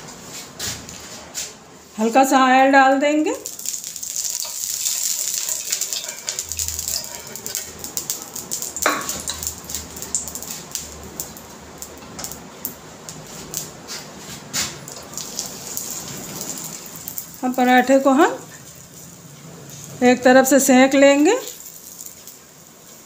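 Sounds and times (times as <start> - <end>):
oil sizzling and crackling: 3.2 - 23.0.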